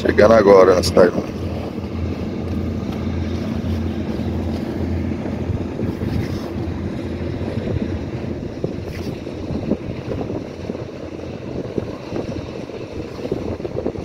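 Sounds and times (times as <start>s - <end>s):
boat engine droning: 0.0s - 14.0s
wind buffeting microphone: 0.0s - 14.0s.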